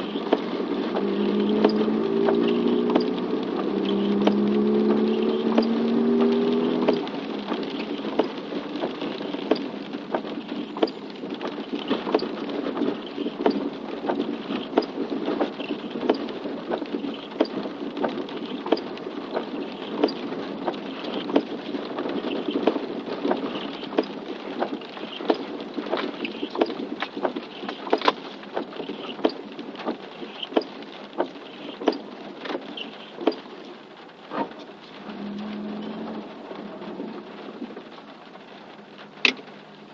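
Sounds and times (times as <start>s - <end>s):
rain pattering: 0.0s - 39.9s
raindrops ticking: 0.0s - 39.9s.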